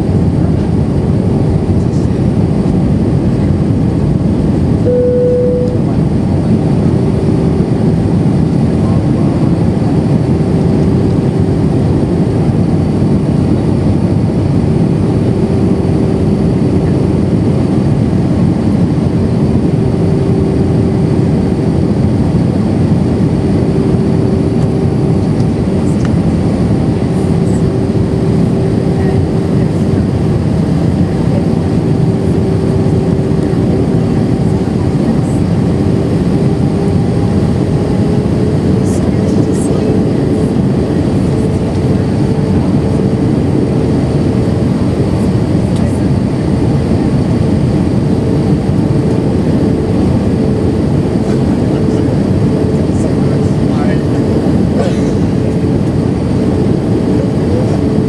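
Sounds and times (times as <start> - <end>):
engine and airflow roar: 0.0 - 58.0
steady cabin hum: 0.0 - 58.0.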